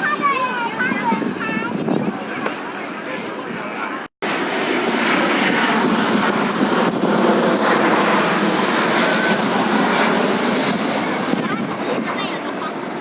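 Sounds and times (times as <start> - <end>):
airplane engines roaring overhead: 0.0 - 13.0.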